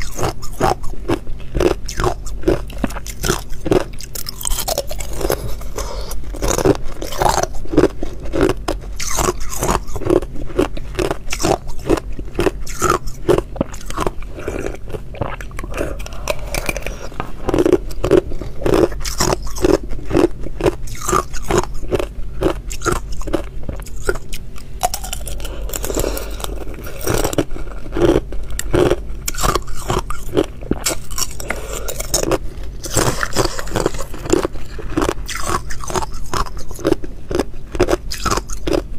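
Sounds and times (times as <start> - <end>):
ice crunching being chewed: 0.0 - 38.9.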